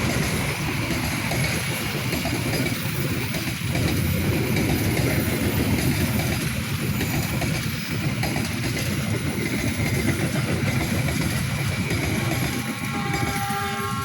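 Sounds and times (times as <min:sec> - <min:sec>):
passenger train rumbling past: 0:00.0 - 0:14.0.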